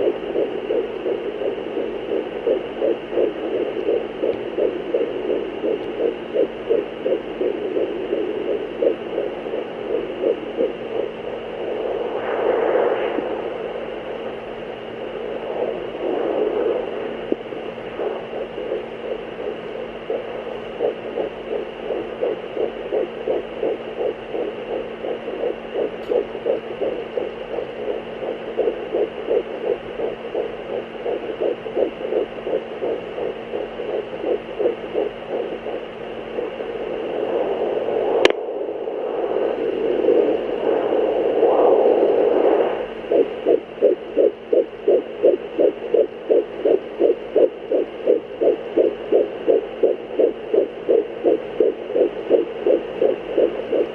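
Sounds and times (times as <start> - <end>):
faint steady hum: 0.0 - 53.9
fetal heartbeat pulse: 0.0 - 53.9.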